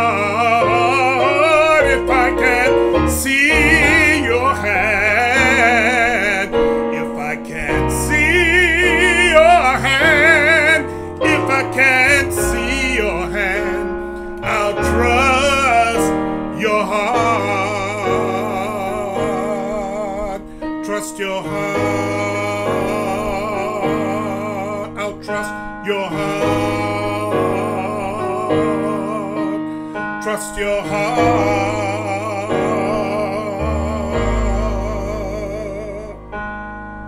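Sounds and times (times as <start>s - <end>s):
man singing gospel: 0.0s - 36.4s
instrumental accompaniment: 0.0s - 37.0s.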